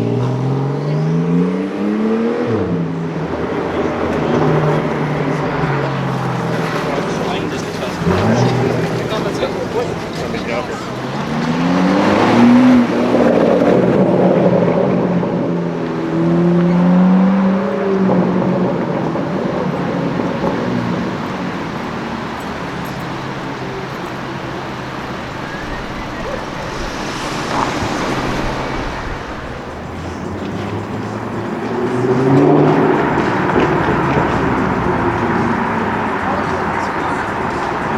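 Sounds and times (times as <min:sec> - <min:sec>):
sports car engine accelerating: 0:00.0 - 0:37.9
street traffic: 0:00.0 - 0:37.9.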